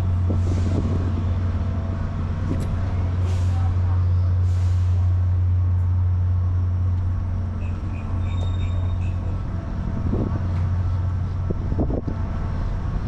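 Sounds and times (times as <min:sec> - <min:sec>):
train humming: 0:00.0 - 0:13.0.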